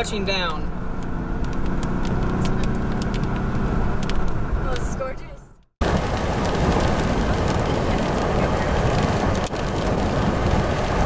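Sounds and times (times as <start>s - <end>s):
road and wind noise in car: 0.0s - 11.0s.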